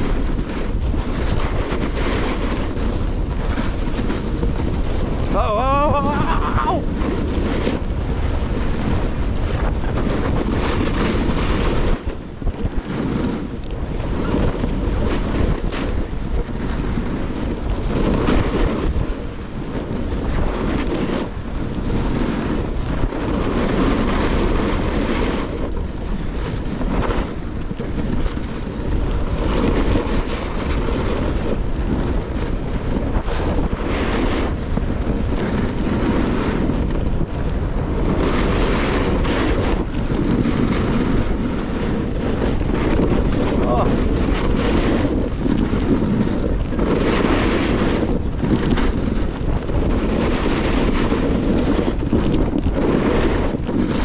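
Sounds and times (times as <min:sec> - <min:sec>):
snowboard edges scraping snow: 0:00.0 - 0:54.0
wind buffeting microphone: 0:00.0 - 0:54.0.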